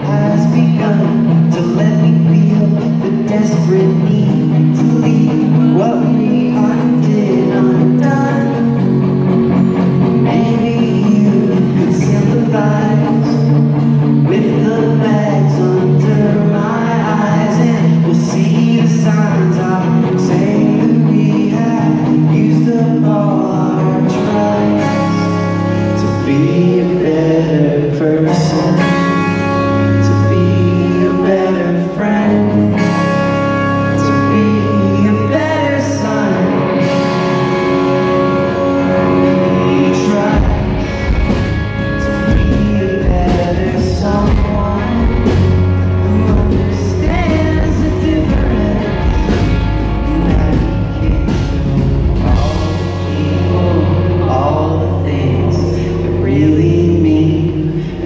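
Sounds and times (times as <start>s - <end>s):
bass and drums: 0.0s - 58.0s
electric guitars: 0.0s - 58.0s
person singing lead vocal: 0.0s - 58.0s.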